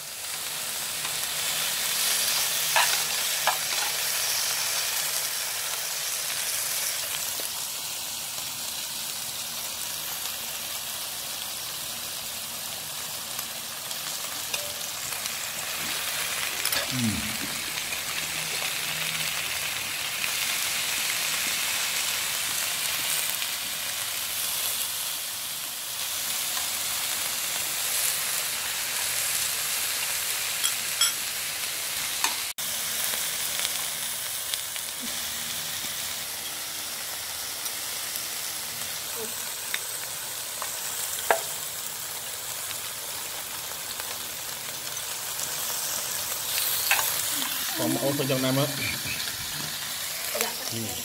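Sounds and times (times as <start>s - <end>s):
meat and vegetables sizzling: 0.0s - 51.0s.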